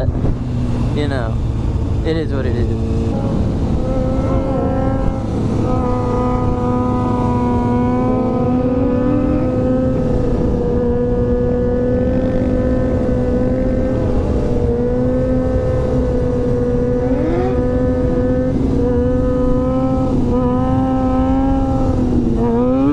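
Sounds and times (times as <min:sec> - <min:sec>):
motorcycle engine cruising: 0:00.0 - 0:22.9
wind and road noise: 0:00.0 - 0:22.9.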